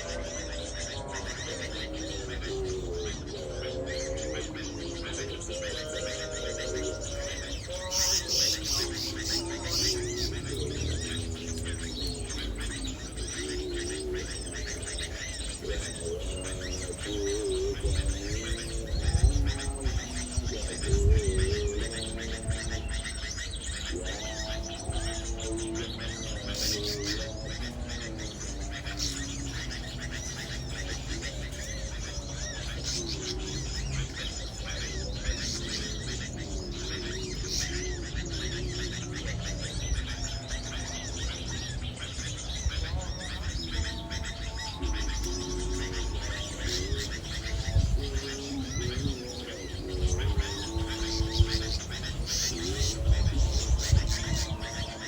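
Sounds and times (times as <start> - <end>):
low wavering cooing: 0.0 - 55.0
small birds chirping: 0.0 - 55.0.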